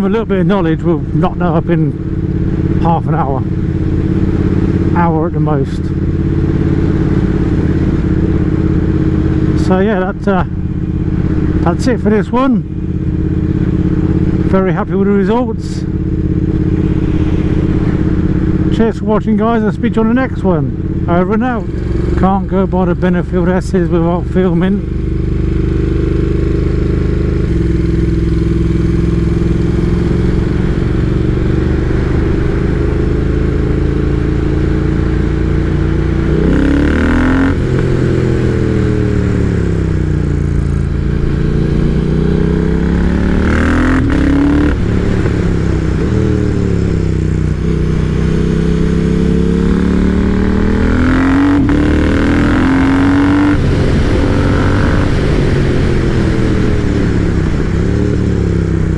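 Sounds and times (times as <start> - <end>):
motorcycle engine: 0.0 - 58.9.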